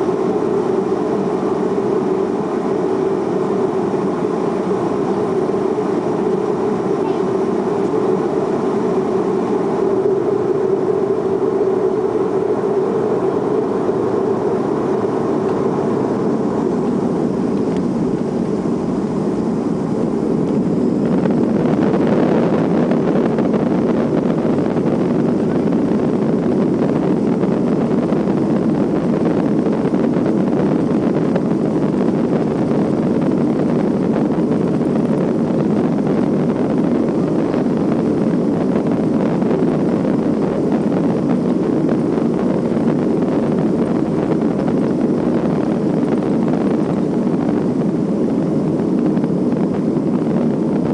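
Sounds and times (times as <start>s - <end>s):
hum: 0.0s - 50.9s
jet engines at high power: 0.0s - 50.9s.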